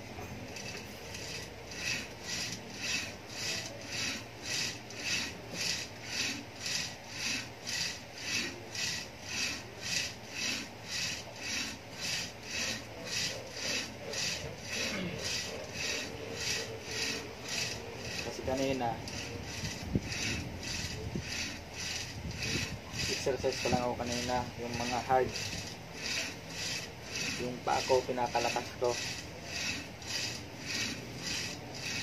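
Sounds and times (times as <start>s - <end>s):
rope rubbing through pulley: 0.0s - 32.0s.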